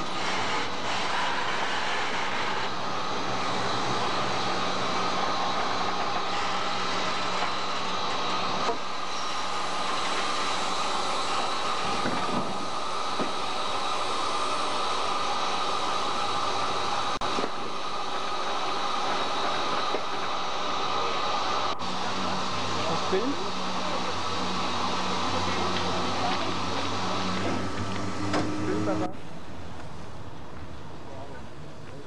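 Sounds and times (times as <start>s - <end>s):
steam locomotive rumble and hiss: 0.0s - 32.0s.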